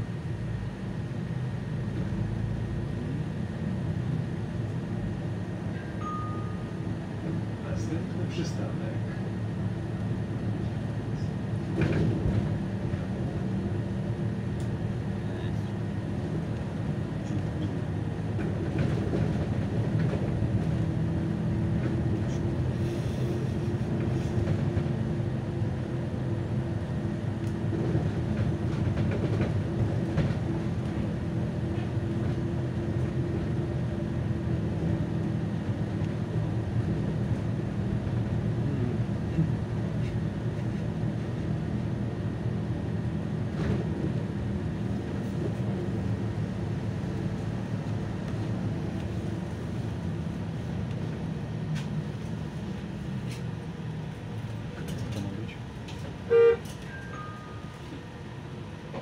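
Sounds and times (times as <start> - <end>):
bus engine hum: 0.0 - 59.0.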